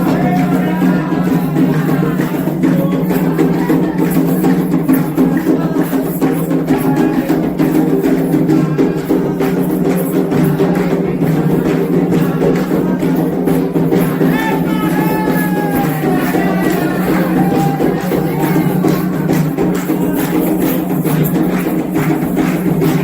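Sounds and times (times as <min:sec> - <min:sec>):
hand drums playing rhythm: 0:00.0 - 0:23.0.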